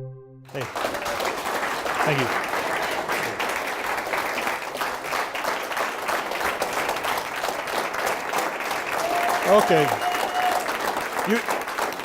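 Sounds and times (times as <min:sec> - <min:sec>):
audience applauding: 0:00.6 - 0:12.0.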